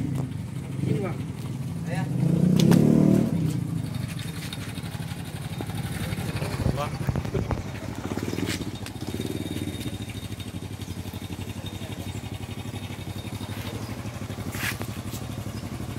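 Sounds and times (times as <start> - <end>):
vehicle engine idling: 0.0 - 15.9.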